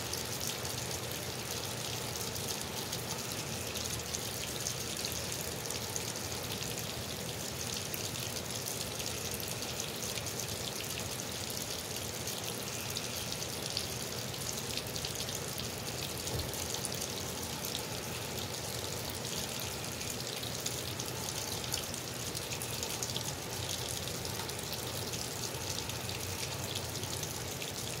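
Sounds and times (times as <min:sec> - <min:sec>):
runoff water pouring and splashing: 0:00.0 - 0:28.0
rain on wet pavement: 0:00.1 - 0:28.0.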